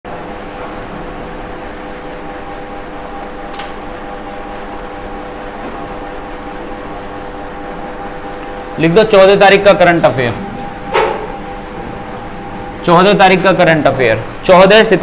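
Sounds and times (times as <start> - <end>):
faint constant hum: 0.8 - 15.0.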